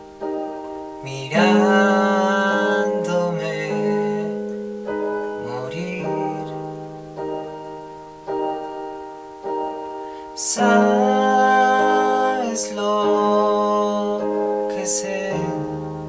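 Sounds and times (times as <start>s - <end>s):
slow piano chords on keyboard: 0.0s - 16.0s.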